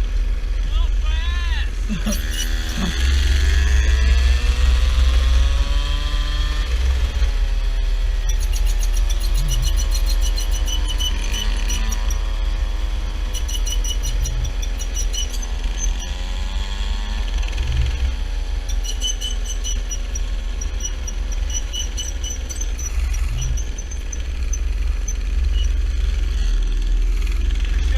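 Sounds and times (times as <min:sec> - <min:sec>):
mini bike engine running: 0:00.0 - 0:27.9.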